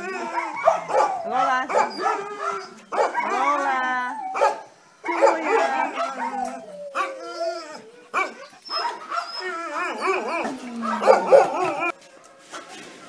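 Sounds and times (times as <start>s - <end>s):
dogs barking and howling: 0.0s - 13.0s.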